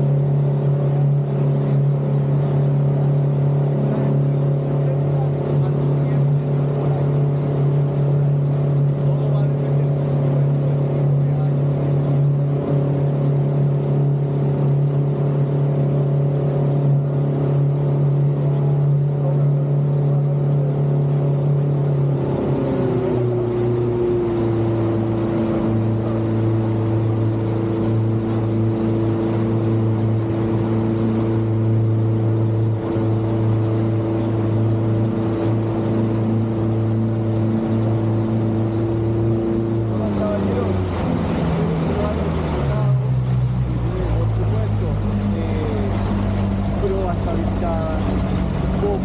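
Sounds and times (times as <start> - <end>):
outboard motor droning: 0.0 - 49.0
rushing water and wake: 0.0 - 49.0.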